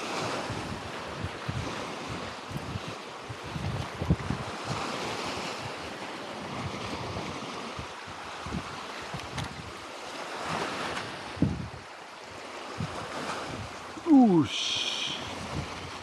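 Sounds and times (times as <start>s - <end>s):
wind buffeting microphone: 0.0s - 14.0s, 15.2s - 16.0s
sea waves against rocks: 0.0s - 16.0s.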